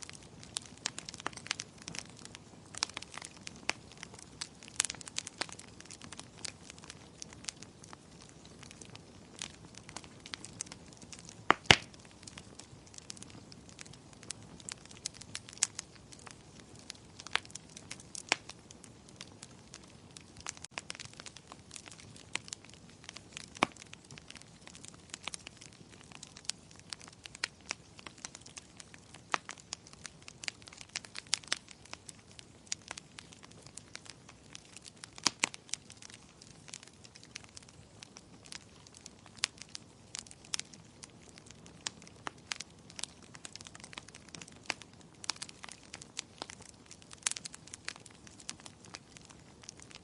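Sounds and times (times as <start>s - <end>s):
fire popping and snapping: 0.0s - 50.0s
soft steady fire hiss: 0.0s - 50.0s
wood fire crackling: 0.0s - 50.0s.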